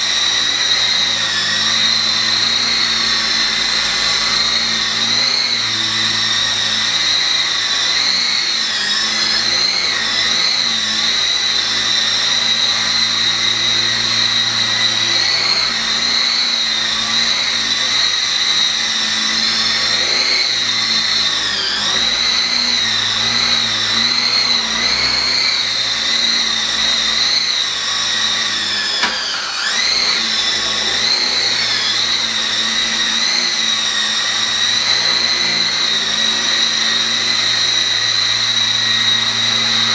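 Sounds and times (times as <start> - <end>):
toy helicopter motors whining: 0.0 - 39.9.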